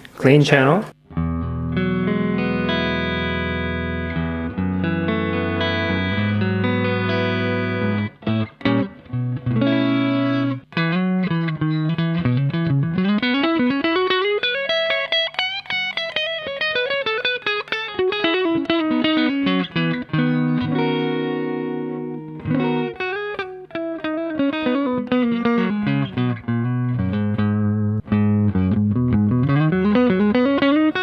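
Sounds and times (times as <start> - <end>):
clean electric guitar: 0.8 - 31.0.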